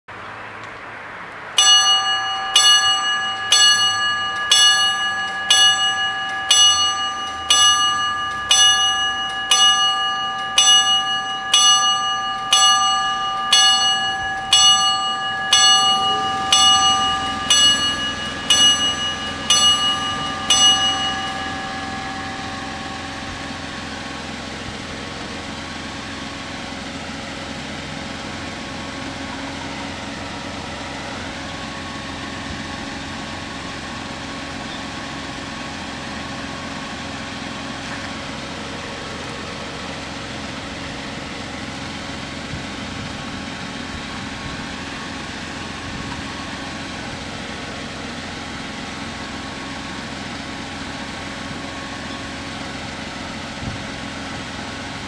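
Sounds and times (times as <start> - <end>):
low engine hum: 0.1 - 55.0
level crossing warning bells: 1.5 - 55.0.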